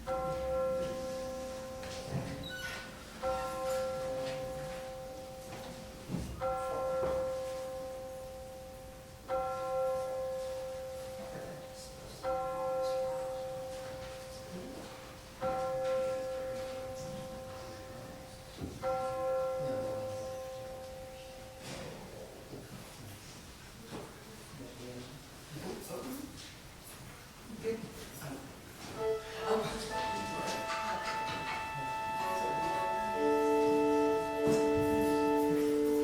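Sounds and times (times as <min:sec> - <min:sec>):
church bell tolling: 0:00.0 - 0:22.2, 0:29.0 - 0:36.0.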